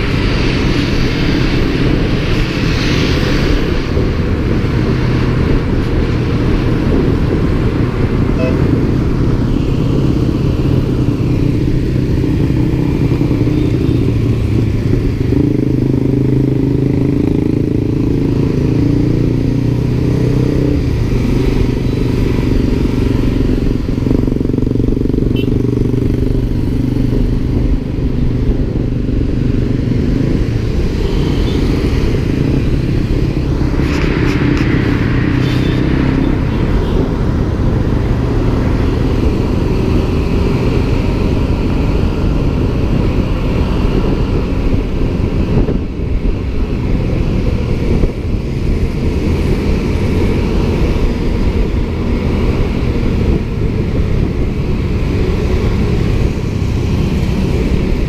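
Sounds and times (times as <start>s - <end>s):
road and wind rumble: 0.0s - 58.0s.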